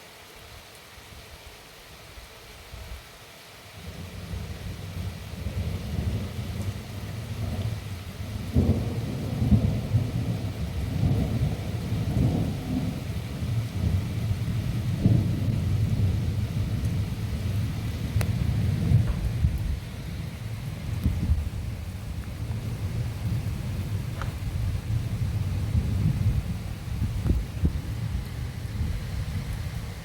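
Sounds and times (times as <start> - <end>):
rain falling: 0.0 - 30.0
rolling thunder: 5.4 - 30.0.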